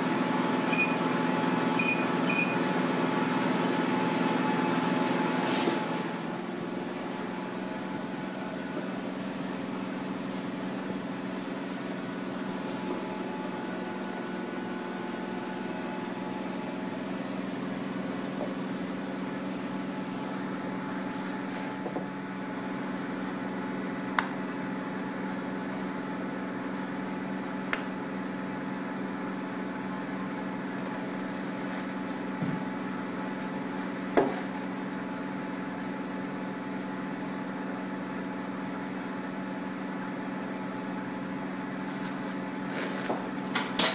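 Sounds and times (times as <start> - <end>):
machine cooling system hum: 0.0 - 43.9.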